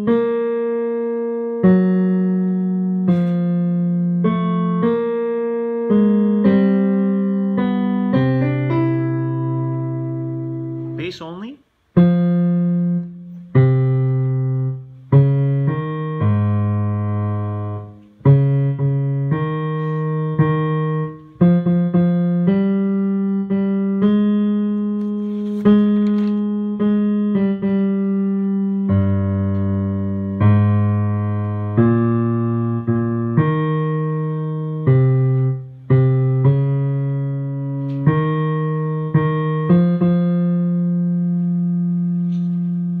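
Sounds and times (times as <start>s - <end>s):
piano playing low notes: 0.0s - 43.0s.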